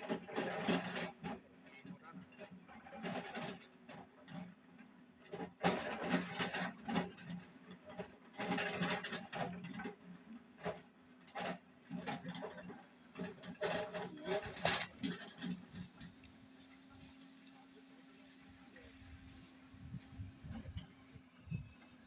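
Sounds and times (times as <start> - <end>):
excavator clanks and scrapes: 0.0 - 22.0
excavator engine hum: 0.0 - 22.0.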